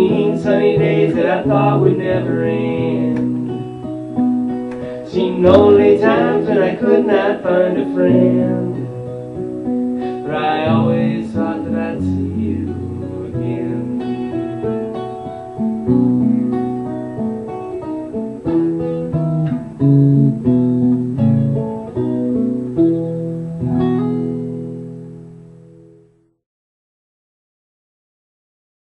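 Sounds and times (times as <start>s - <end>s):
acoustic guitar playing: 0.0s - 26.4s.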